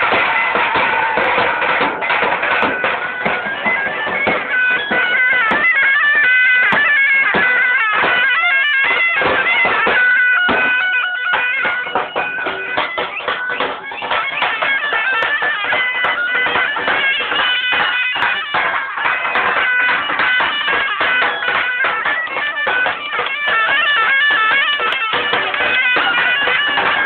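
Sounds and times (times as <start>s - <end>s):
reedy wind instrument melody: 0.0s - 27.0s.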